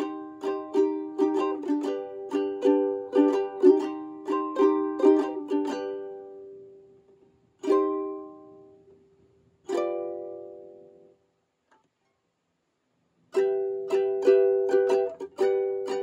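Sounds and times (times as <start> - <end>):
ukulele strumming: 0.0 - 11.2, 13.3 - 16.0.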